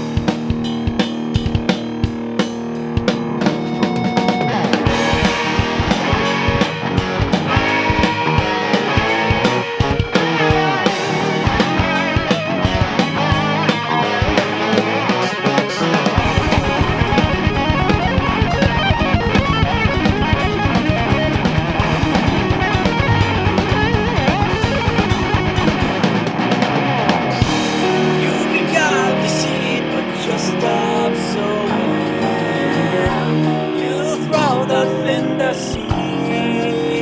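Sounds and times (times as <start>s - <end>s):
drum kit: 0.0s - 37.0s
electric guitar: 0.0s - 37.0s.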